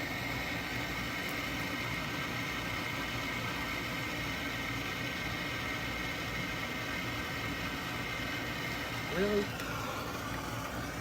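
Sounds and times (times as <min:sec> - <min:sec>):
gas burners hissing: 0:00.0 - 0:11.0.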